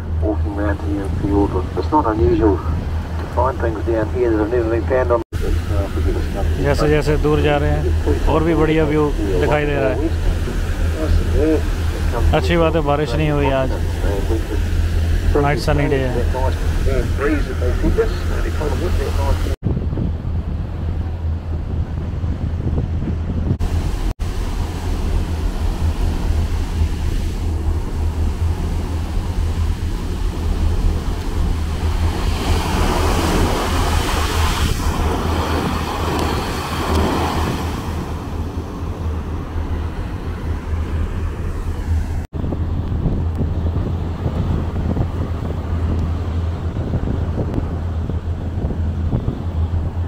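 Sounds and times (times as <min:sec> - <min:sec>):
boat engines rumbling: 0:00.0 - 0:50.0
boat wake rushing: 0:00.0 - 0:50.0
wind buffeting microphone: 0:00.0 - 0:50.0.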